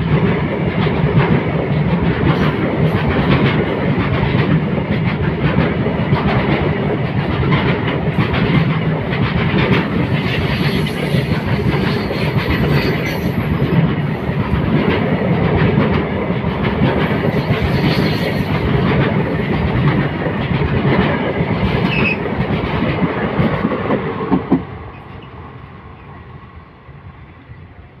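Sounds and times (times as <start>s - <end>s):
freight train wheels clattering: 0.0s - 25.4s.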